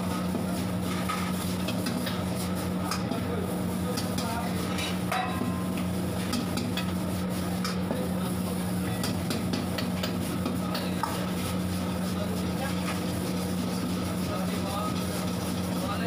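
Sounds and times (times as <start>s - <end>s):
ladle and spatula scraping wok: 0.0s - 16.0s.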